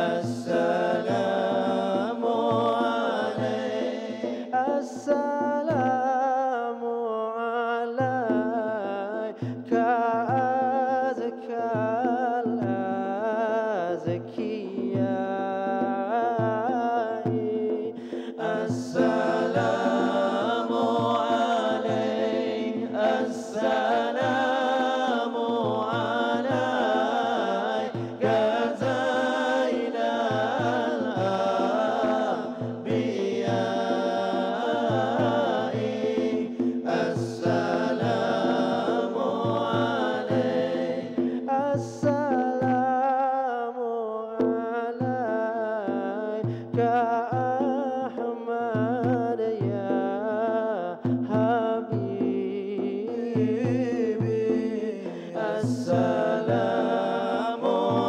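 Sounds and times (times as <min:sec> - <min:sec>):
men chanting into microphones: 0:00.0 - 0:58.0.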